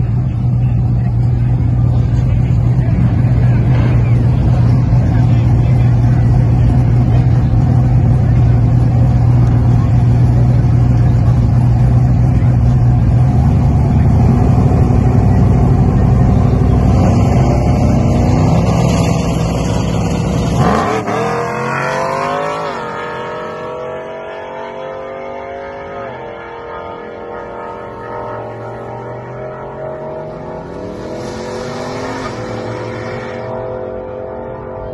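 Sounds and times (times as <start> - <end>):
pickup truck engine revving: 0.0 - 25.0, 25.6 - 34.4.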